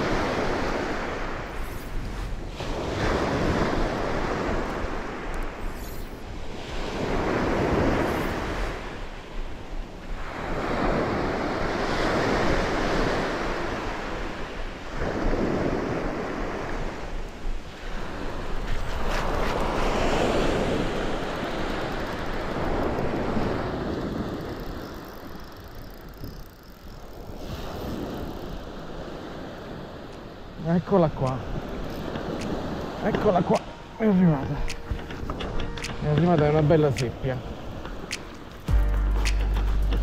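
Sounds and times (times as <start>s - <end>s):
small waves breaking on sand: 0.0s - 25.4s, 27.1s - 34.9s.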